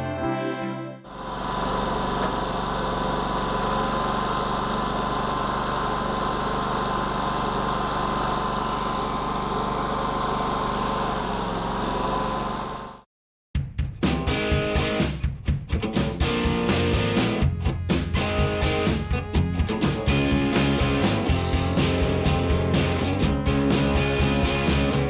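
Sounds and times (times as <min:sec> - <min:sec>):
small gas engine running: 0:01.0 - 0:13.1, 0:16.7 - 0:25.0
high whine: 0:01.1 - 0:12.9, 0:16.8 - 0:25.0.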